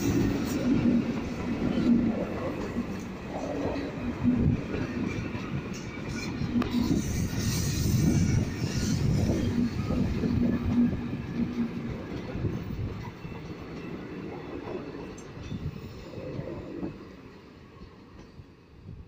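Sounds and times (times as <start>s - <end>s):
passing train rumbling and clattering: 0.0s - 19.0s.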